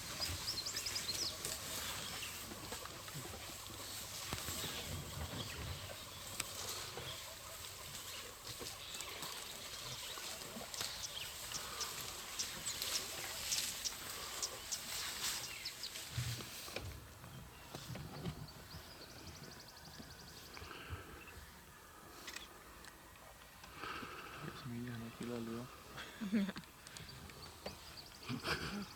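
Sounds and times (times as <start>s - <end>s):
small birds chirping: 0.0s - 28.9s
steady outdoor hiss: 0.0s - 28.9s.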